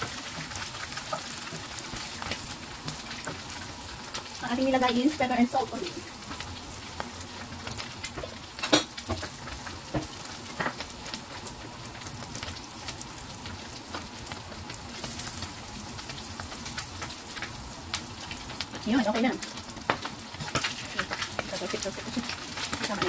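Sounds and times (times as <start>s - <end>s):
eggs sizzling in oil: 0.0s - 23.0s.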